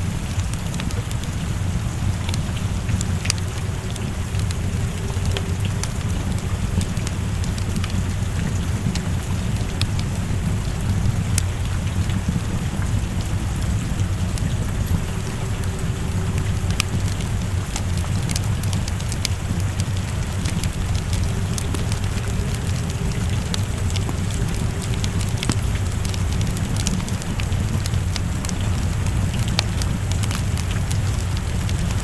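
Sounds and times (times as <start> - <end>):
falling rain: 0.0 - 32.0
low rumble: 0.0 - 32.0
wood fire crackling and popping: 0.0 - 32.0.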